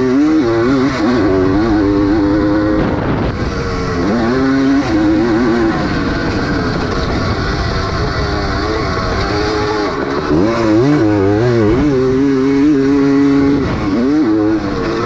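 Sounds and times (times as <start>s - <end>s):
motorcycle engine revving: 0.0s - 15.0s
steady rushing noise: 0.0s - 15.0s.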